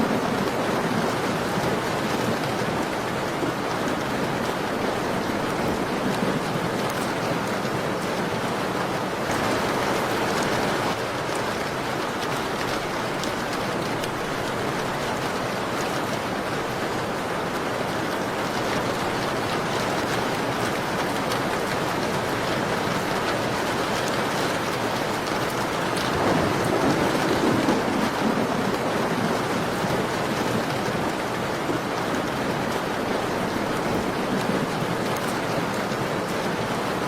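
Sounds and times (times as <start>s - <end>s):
rain on a window: 0.0s - 37.0s.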